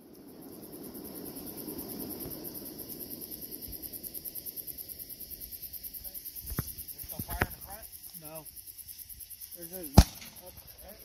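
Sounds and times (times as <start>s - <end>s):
crickets chirping: 0.0s - 11.0s
low background hiss: 0.0s - 11.0s.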